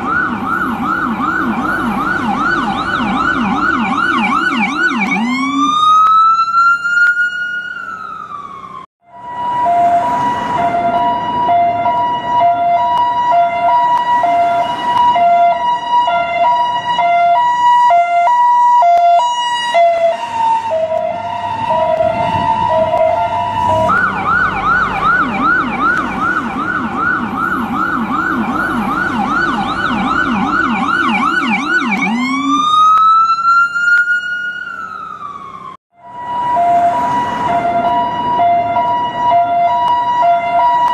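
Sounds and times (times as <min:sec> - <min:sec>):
ambulance siren: 0:00.0 - 0:40.9.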